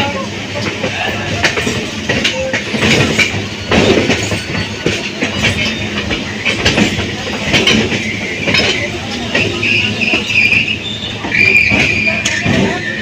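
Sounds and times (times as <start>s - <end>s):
train rumble: 0.0s - 13.0s
train wheels clattering on rails: 0.0s - 13.0s.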